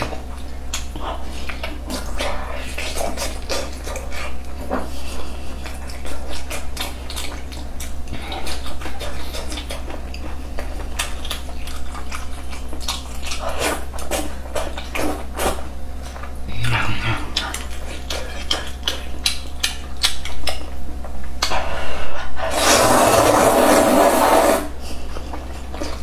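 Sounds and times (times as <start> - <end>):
wet chewing and lip-smacking: 0.0 - 21.8
steady low hum: 0.0 - 26.0.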